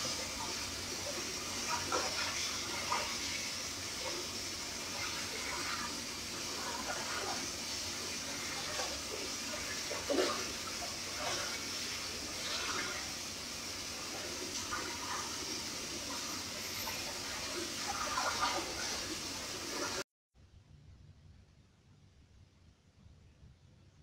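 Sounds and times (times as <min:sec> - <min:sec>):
rushing water-like noise: 0:00.0 - 0:20.0.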